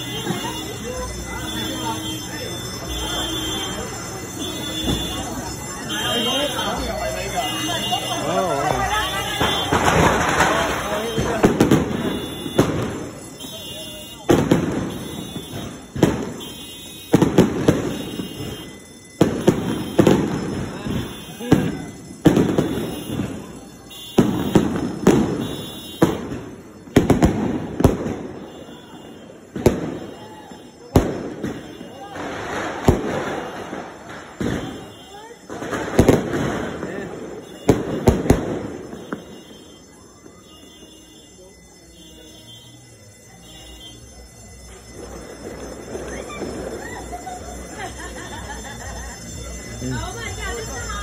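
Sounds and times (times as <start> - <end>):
crowd chattering and calling out: 0.0 - 51.0
fireworks bangs: 0.0 - 51.0.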